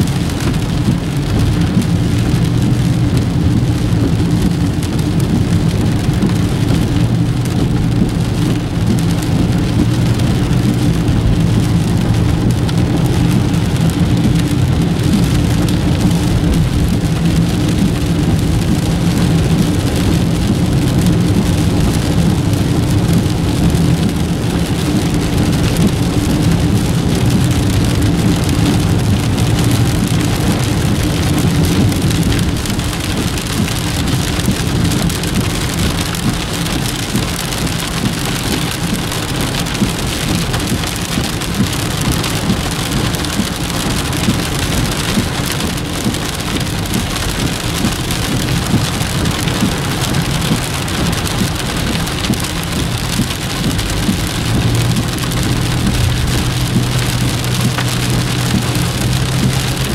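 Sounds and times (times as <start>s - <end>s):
car engine and tyre hum: 0.0s - 59.9s
rain on car windshield: 0.0s - 59.9s.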